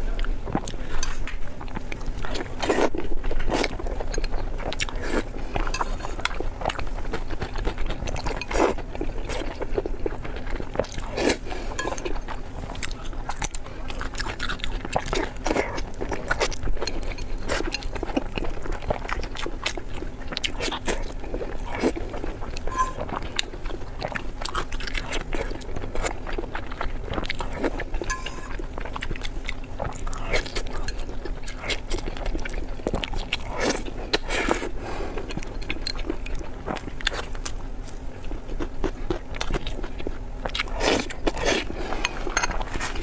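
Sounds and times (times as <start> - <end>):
faint steady hum: 0.0 - 43.0
crunchy biting and chewing: 0.1 - 43.0.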